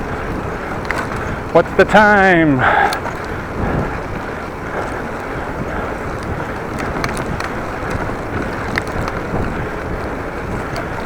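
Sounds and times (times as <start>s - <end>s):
faint ticks: 0.0s - 1.5s, 2.6s - 11.0s
wind blowing across microphone: 0.0s - 11.0s.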